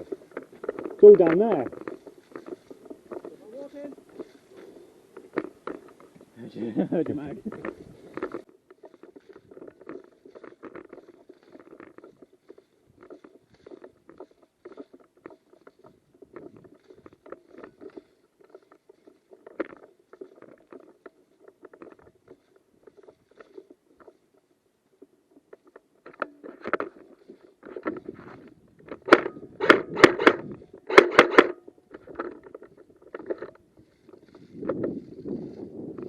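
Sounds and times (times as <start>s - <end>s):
gear brushing against clothing: 0.0s - 31.3s, 32.0s - 36.0s
rustling and crunching footsteps: 0.0s - 36.0s.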